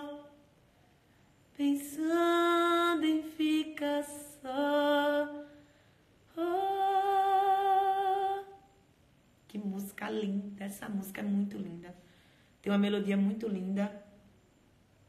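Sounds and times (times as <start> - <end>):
woman singing a cappella: 0.0 - 0.6, 1.5 - 14.1.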